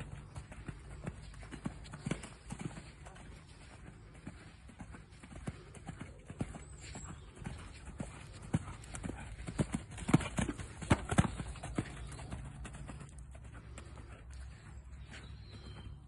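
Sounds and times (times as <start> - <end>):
horse hoofbeats cantering on sand: 0.0 - 16.0.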